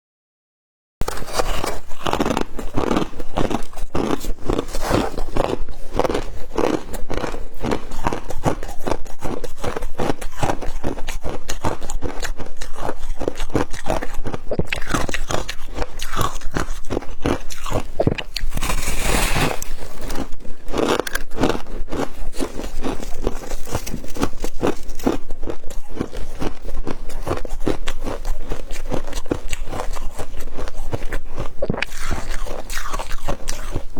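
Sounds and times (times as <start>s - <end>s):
crunchy chewing: 1.0s - 33.9s.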